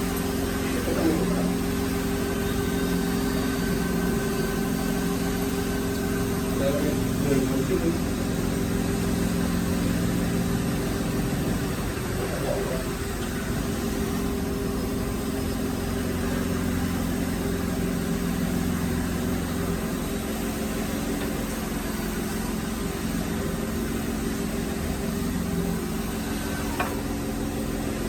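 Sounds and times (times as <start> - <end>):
workshop machinery humming: 0.0 - 28.0.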